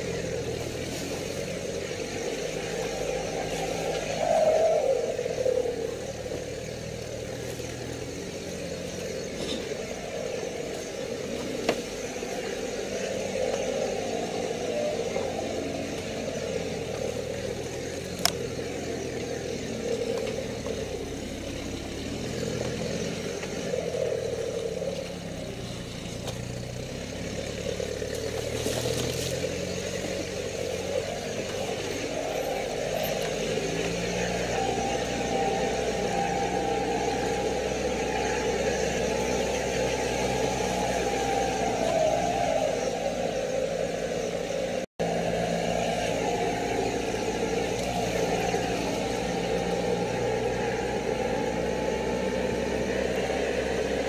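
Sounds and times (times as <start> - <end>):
off-road engine running at low revs: 0.0 - 54.0.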